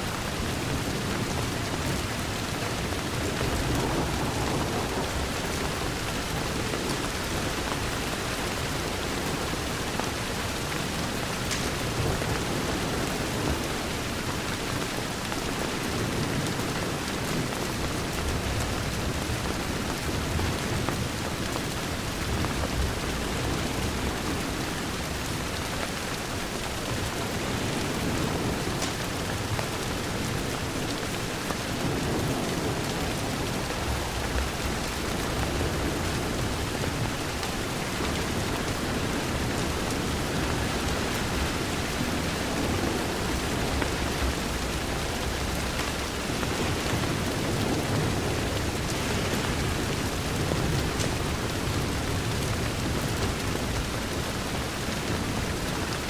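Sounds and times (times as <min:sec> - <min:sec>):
rain against a window: 0:00.0 - 0:56.0.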